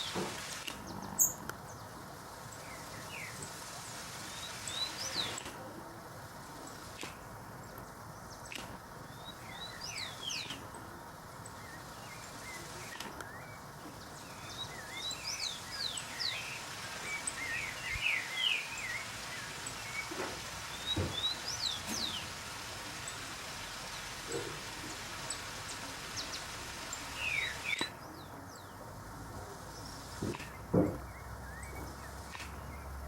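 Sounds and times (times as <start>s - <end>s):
outdoor background hiss: 0.0s - 33.0s
small birds chirping: 0.0s - 33.0s.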